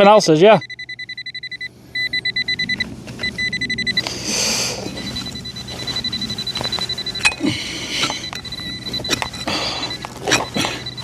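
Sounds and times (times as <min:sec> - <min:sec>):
metal detector beeping: 0:00.0 - 0:11.0.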